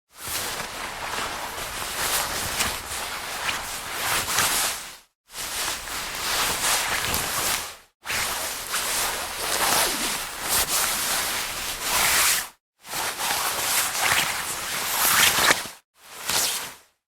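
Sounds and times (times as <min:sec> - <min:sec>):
jacket fabric rustling: 0:00.2 - 0:15.6.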